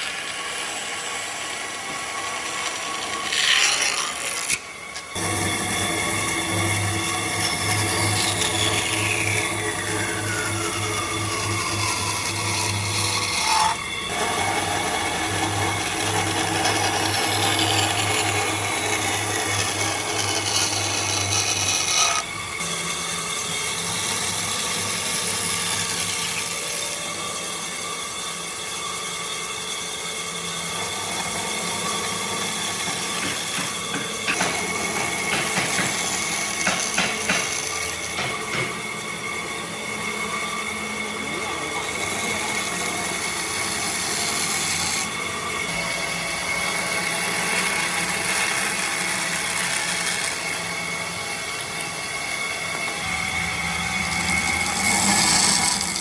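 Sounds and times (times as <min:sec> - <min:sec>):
power tool working wood: 0:00.0 - 0:56.0.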